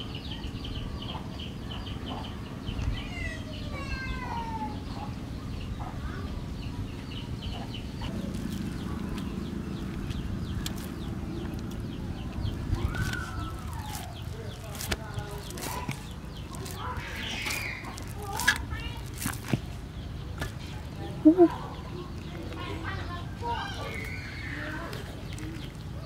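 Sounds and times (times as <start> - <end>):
birds chirping rapidly: 0.0 - 26.0.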